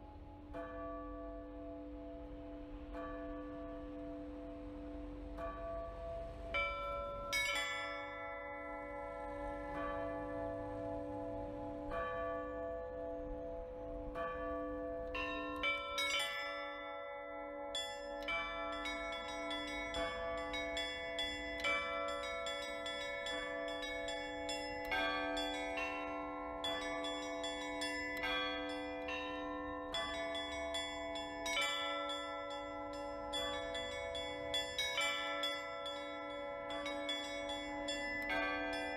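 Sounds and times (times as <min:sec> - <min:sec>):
large church bells ringing: 0:00.0 - 0:38.9
small church bells struck: 0:00.0 - 0:38.9.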